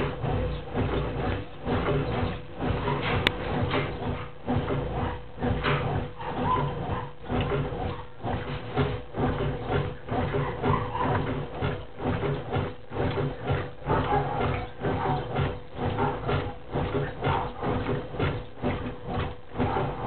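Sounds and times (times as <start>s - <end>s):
washing machine agitating: 0.0s - 20.0s.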